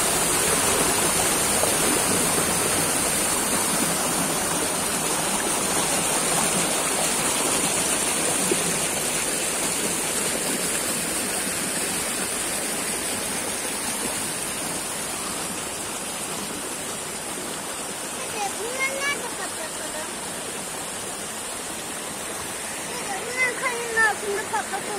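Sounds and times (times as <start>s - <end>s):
stream water rushing over rocks: 0.0s - 24.9s.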